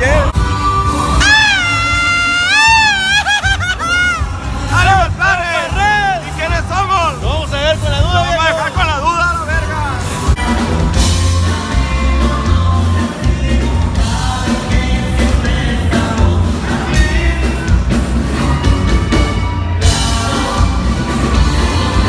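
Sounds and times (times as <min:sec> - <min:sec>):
man singing: 0:00.0 - 0:09.1, 0:10.0 - 0:22.0
drums: 0:00.0 - 0:22.0
electric bass line: 0:00.0 - 0:22.0.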